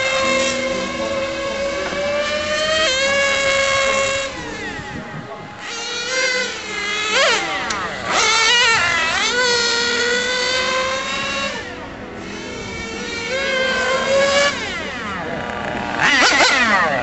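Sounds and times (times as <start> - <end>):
small nitro engine revving: 0.0 - 17.0.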